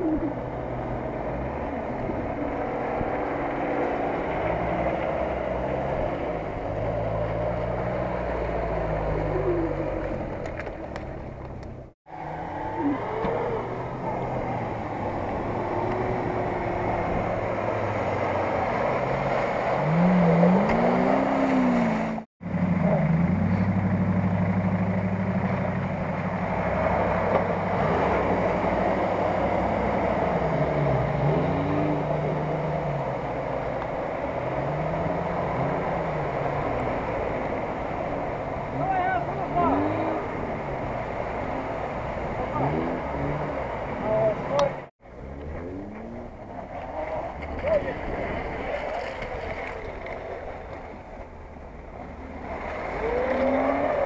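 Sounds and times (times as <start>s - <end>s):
suv engines revving: 0.0s - 54.0s.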